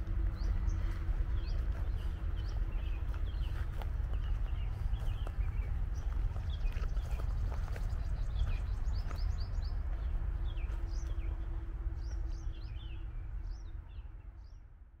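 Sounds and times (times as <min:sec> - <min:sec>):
birds chirping: 0:00.0 - 0:14.7
low outdoor rumble: 0:00.0 - 0:15.0.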